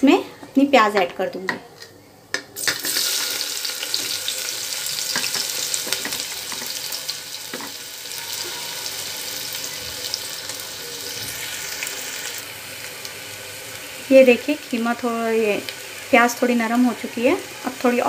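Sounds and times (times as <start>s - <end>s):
onions sizzling in hot oil: 2.6s - 18.0s.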